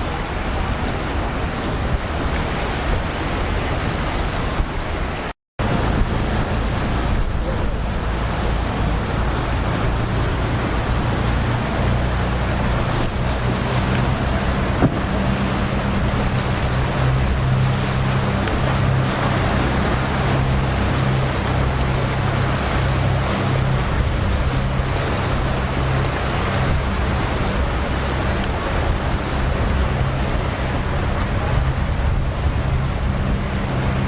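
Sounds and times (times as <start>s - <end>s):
boat engines droning: 0.0s - 34.0s
waves washing: 0.0s - 34.0s
wind: 0.0s - 34.0s.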